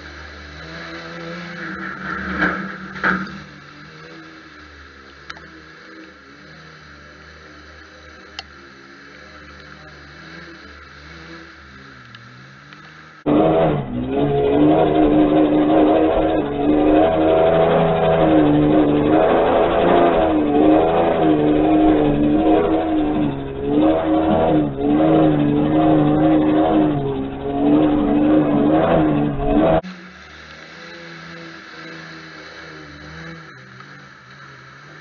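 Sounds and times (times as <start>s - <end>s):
truck engine revving hard: 0.0s - 30.0s.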